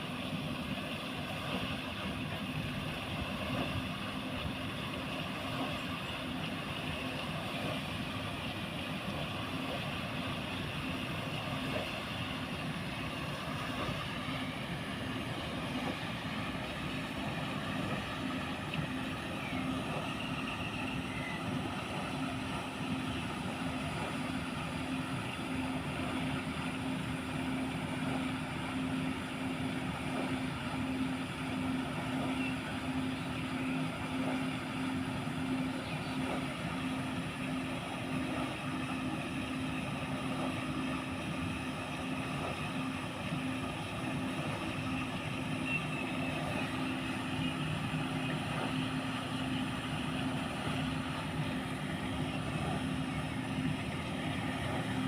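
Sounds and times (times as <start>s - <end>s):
machine hum: 0.0s - 55.0s
water churning and splashing: 0.0s - 55.0s.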